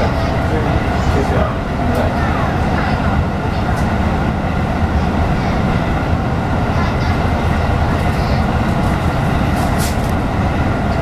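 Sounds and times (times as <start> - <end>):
steady train whine: 0.0 - 11.0
wheels rumbling on rail: 0.0 - 11.0.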